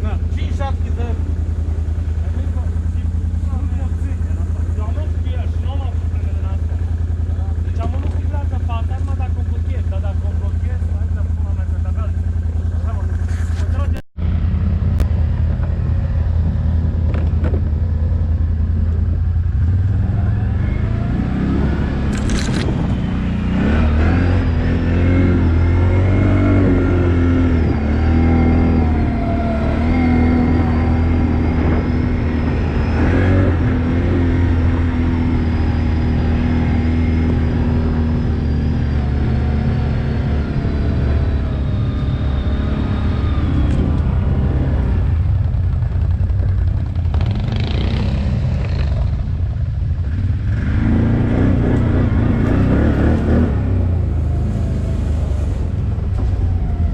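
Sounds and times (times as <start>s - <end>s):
atv engine revving: 0.0s - 56.9s.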